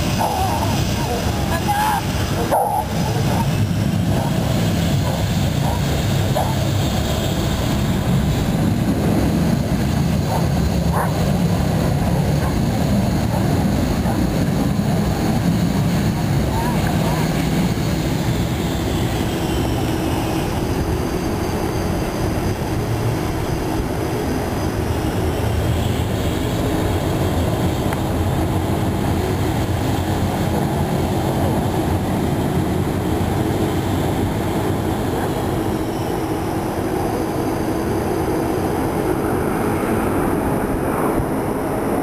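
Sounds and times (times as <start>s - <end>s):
high turbine whine: 0.0s - 42.0s
jet engines rumbling: 0.0s - 42.0s.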